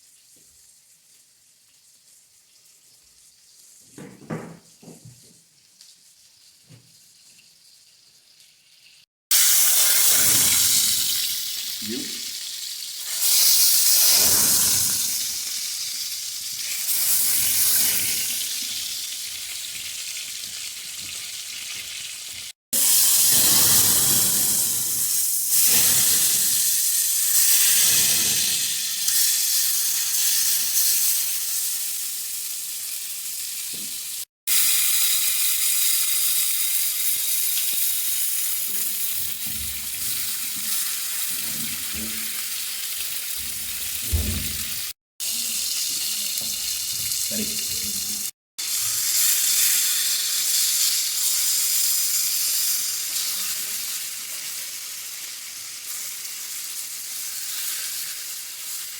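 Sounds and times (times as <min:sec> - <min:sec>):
steak sizzling in a frying pan: 0:00.0 - 0:03.8, 0:05.4 - 0:58.9.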